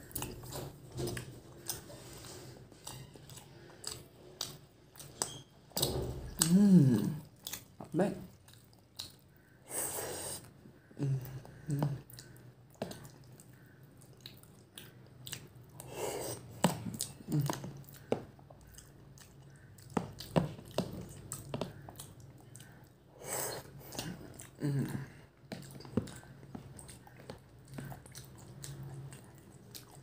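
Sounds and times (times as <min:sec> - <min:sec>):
person chewing: 0:00.0 - 0:30.0.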